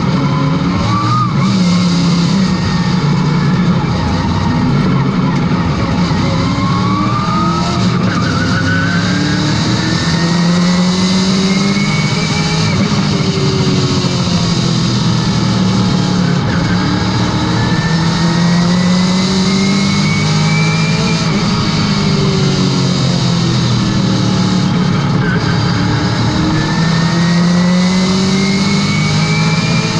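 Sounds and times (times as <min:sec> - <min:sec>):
race car engine accelerating: 0:00.0 - 0:29.9.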